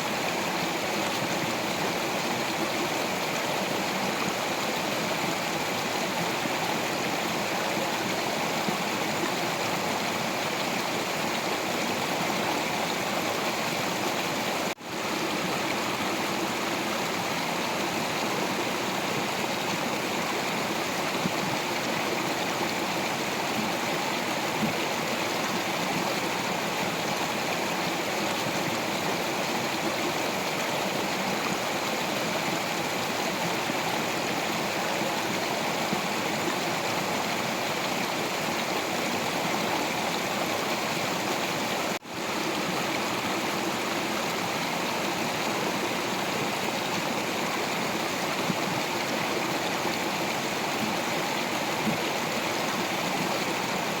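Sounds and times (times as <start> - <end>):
stream water splashing over rocks: 0.0 - 54.0.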